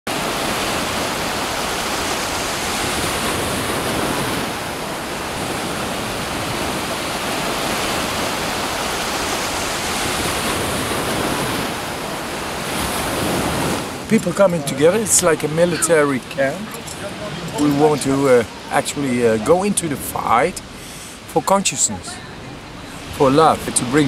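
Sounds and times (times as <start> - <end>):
waves breaking on beach: 0.1 - 24.0.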